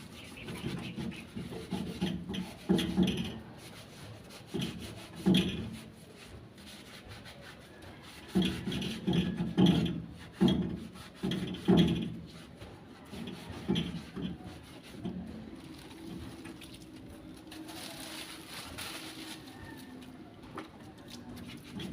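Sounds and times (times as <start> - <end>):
hand rubbing a stock pot: 0.0 - 21.9.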